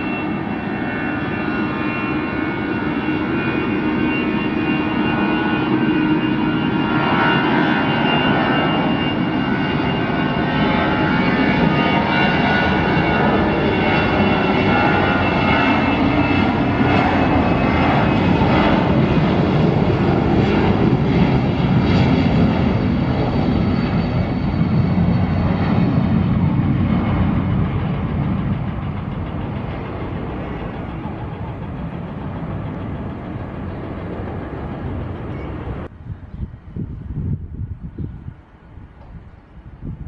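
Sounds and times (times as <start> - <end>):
jet airliner engines running: 0.0 - 40.0.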